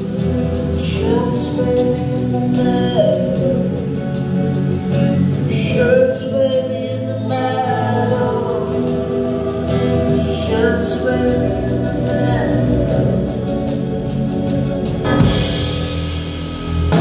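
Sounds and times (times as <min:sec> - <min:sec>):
man singing: 0:00.0 - 0:15.0
acoustic guitar: 0:00.0 - 0:17.0
drums: 0:00.0 - 0:17.0
keyboard: 0:00.0 - 0:17.0.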